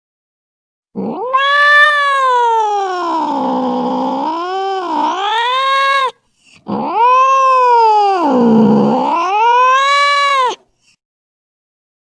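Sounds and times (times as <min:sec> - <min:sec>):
angry cat yowling: 0:01.0 - 0:10.7.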